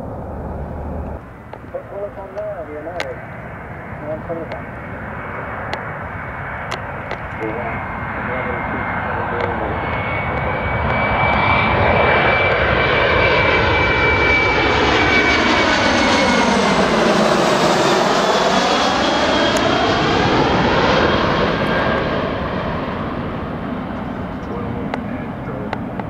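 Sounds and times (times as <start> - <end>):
jet airliner passing overhead: 0.0 - 26.0.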